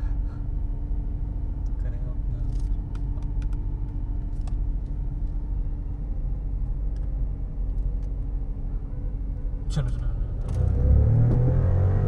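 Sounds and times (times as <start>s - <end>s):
faint steady drone: 0.0s - 10.6s
car engine and tyres rumbling: 0.0s - 12.0s.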